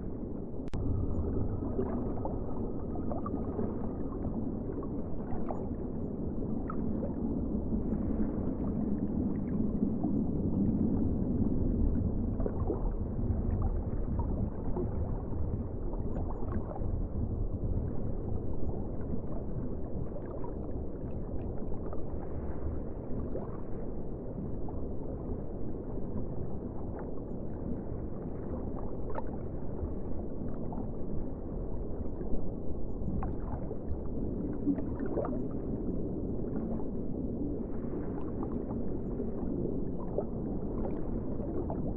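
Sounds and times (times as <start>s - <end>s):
muffled ocean water rushing: 0.0s - 41.9s.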